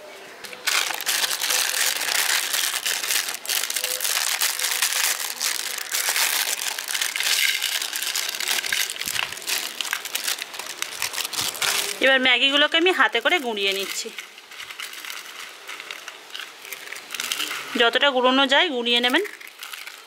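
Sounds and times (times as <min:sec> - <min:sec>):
plastic wrappers crinkling and tearing: 0:00.4 - 0:18.0, 0:18.8 - 0:20.0.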